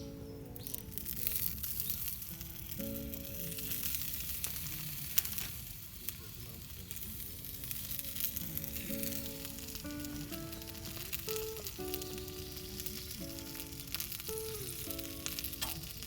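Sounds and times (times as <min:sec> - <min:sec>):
fire popping and crackling: 0:00.0 - 0:16.0
food sizzling in a skillet: 0:00.0 - 0:16.0
soft background music: 0:00.0 - 0:16.0.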